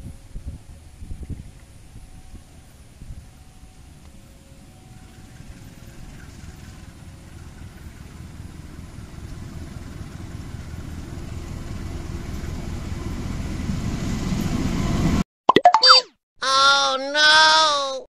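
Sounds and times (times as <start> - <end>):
diesel locomotive engine rumble: 0.0 - 15.2.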